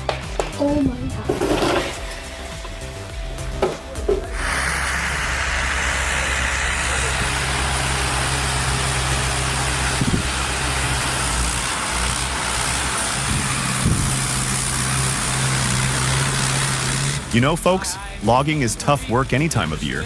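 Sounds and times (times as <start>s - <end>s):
heavy machine engine running: 0.0s - 20.0s.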